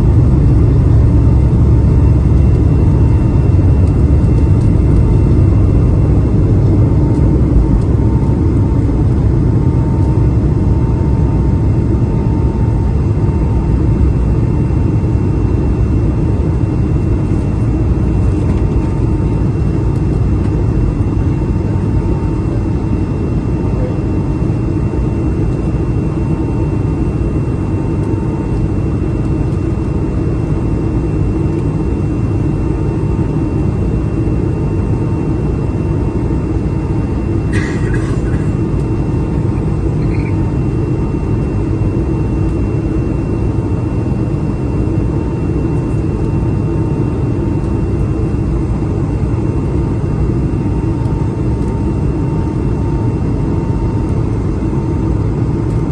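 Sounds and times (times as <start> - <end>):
faint steady whine: 0.0 - 55.9
jet engine rumble in cabin: 0.0 - 55.9.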